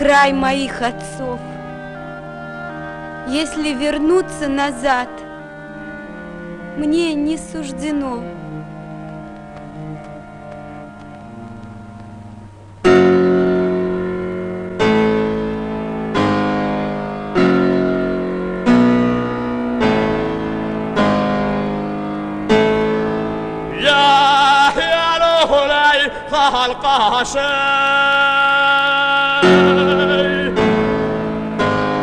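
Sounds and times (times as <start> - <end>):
slow loud piano chords: 0.0 - 32.0.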